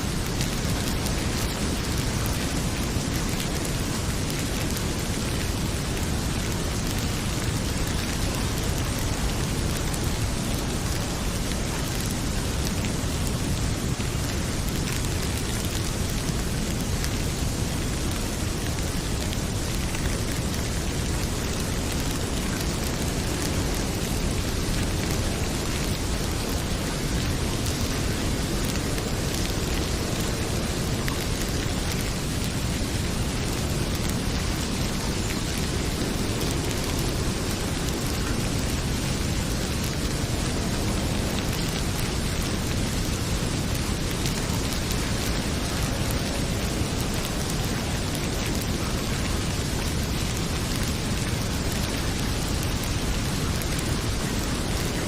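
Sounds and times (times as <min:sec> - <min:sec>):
heavy rain pouring: 0:00.0 - 0:55.0
wood fire crackling: 0:00.0 - 0:55.0.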